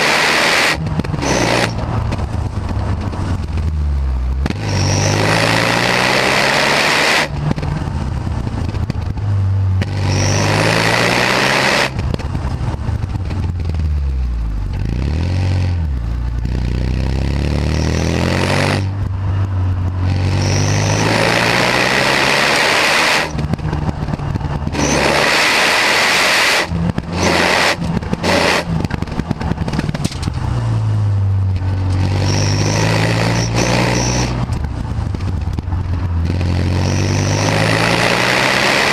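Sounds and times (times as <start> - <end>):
turbocharged car engine revving: 0.0 - 12.5, 13.4 - 38.9.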